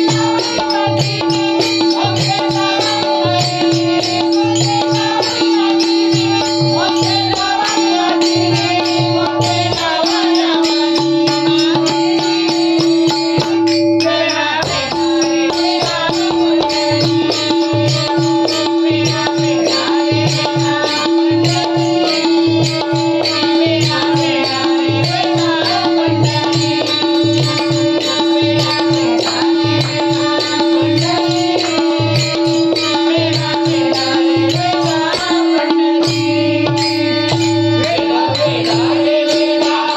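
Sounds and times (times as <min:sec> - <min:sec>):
hand drum rhythm: 0:00.0 - 0:39.9
jingling metal percussion: 0:00.0 - 0:39.9.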